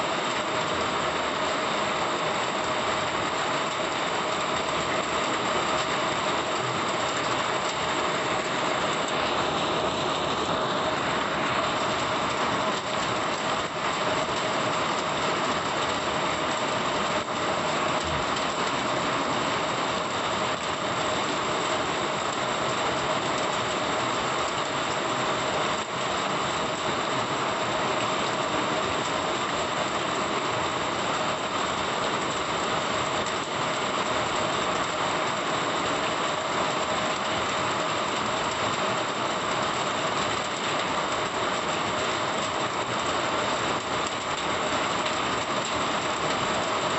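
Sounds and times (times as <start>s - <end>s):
heavy rain on flooded road: 0.0s - 46.9s.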